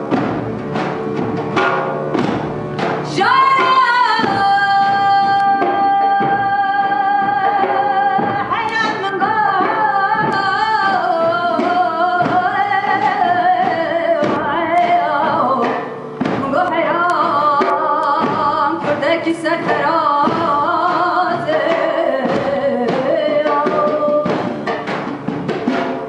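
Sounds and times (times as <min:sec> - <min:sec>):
drum strokes: 0:00.0 - 0:26.0
live band music: 0:00.0 - 0:26.0
woman singing: 0:03.1 - 0:24.9.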